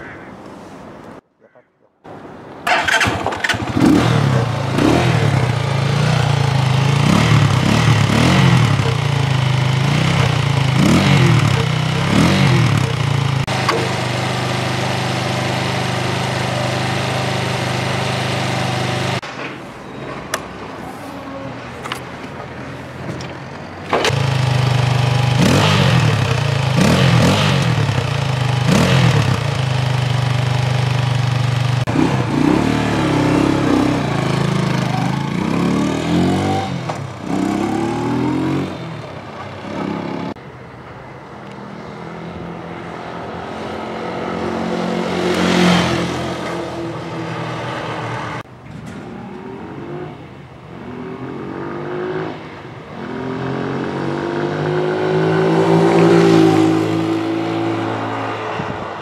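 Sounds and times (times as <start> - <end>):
motorcycle engine revving: 2.7 - 19.2, 24.0 - 40.4, 43.6 - 58.8.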